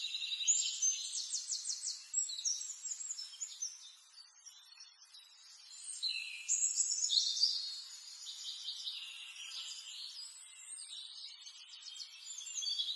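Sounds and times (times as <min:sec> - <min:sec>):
songbird singing: 0:00.0 - 0:12.9.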